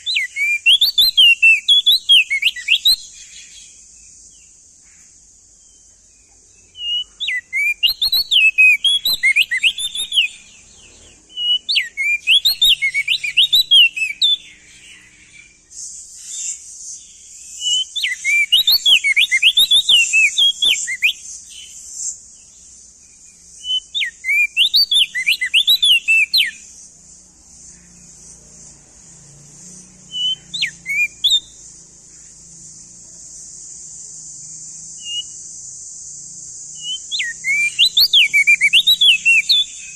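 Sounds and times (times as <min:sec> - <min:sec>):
bird singing whistled notes: 0:00.0 - 0:39.9
steady high hiss: 0:00.0 - 0:39.9.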